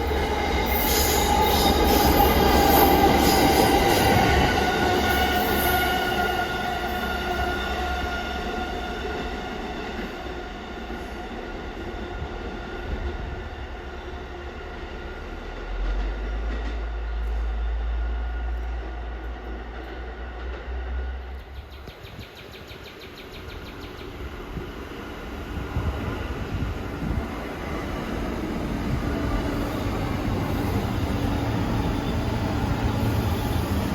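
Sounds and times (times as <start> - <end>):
subway train running: 0.0 - 33.9.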